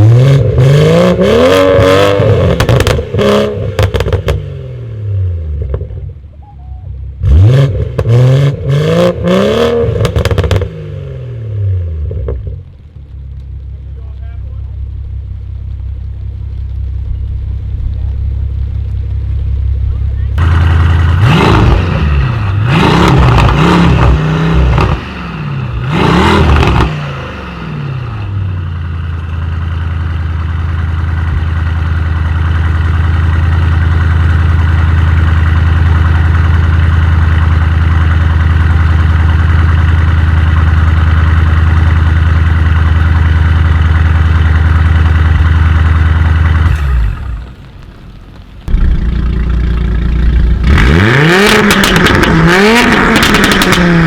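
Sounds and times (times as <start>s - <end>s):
car engine revving: 0.0s - 6.3s, 7.1s - 54.0s.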